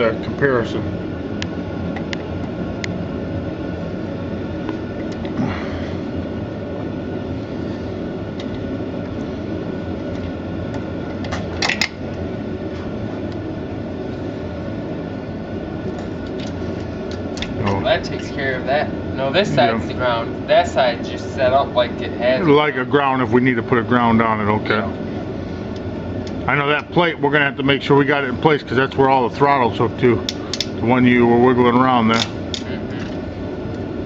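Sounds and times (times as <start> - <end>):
low background hum: 0.0 - 34.0.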